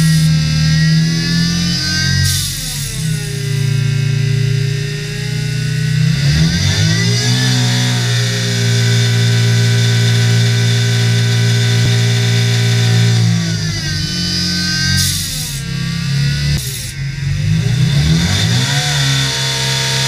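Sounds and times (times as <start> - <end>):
supercharged engine revving: 0.0 - 20.0.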